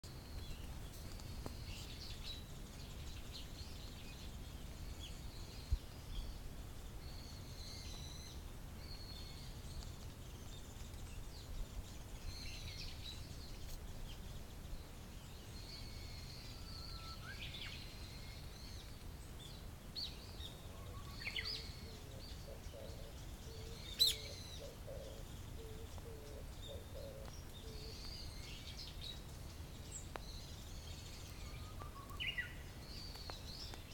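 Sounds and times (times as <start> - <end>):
bird song whistle and flourish: 0.1 - 33.9.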